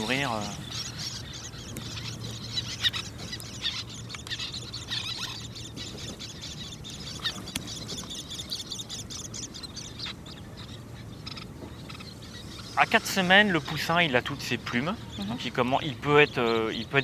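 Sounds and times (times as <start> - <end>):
terns calling: 0.0 - 17.0.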